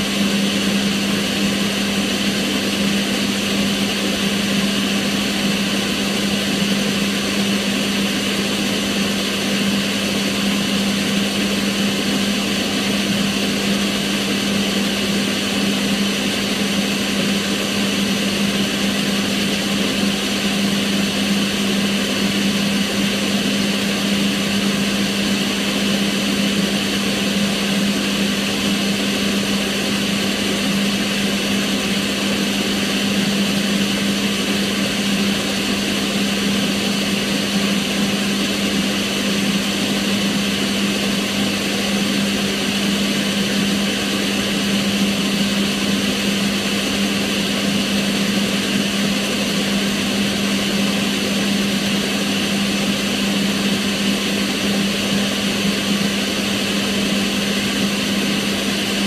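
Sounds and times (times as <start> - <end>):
extractor fan running: 0.0 - 59.0.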